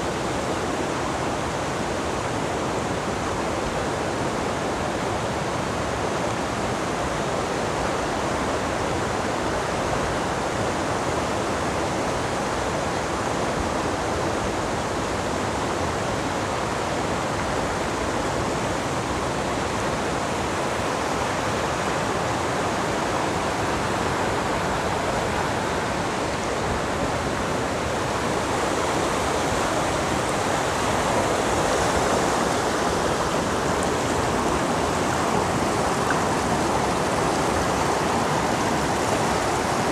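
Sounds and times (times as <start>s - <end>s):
river stream rushing: 0.0s - 39.9s.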